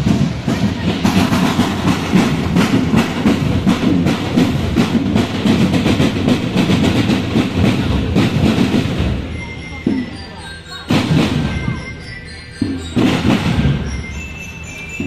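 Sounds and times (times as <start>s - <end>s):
marching drum band playing: 0.0s - 15.0s.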